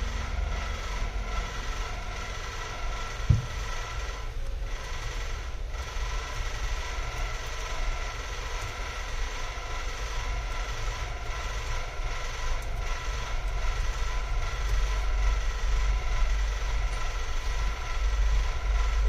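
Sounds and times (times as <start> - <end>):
machine whirring hum: 0.0 - 19.0.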